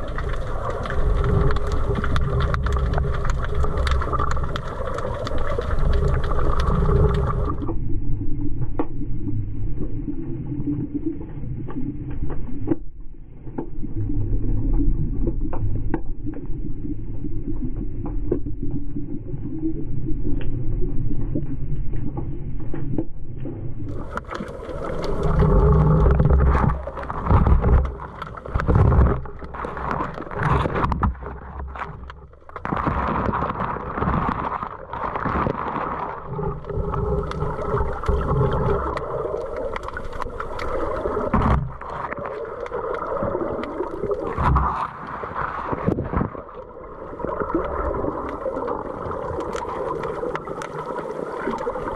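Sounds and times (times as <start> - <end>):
muffled underwater rumble: 0.0 - 51.9
water sloshing and gurgling: 0.0 - 51.9.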